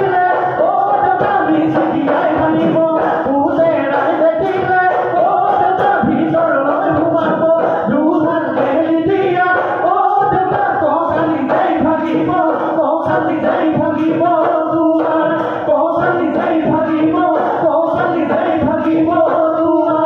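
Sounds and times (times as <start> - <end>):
drums beating steady rhythm: 0.0 - 20.0
men singing in chorus: 0.0 - 20.0.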